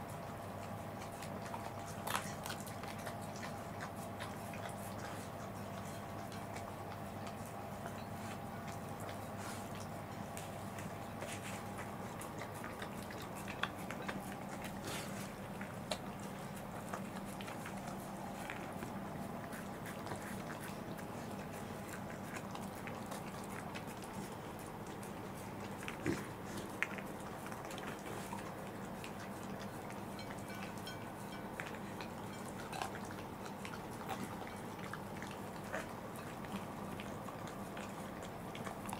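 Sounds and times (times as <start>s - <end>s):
dogs licking plates: 0.0s - 38.9s
steady low hum: 0.0s - 38.9s.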